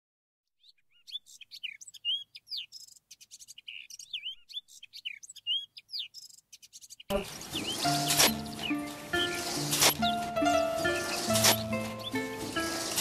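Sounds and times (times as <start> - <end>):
birds chirping: 0.5 - 13.0.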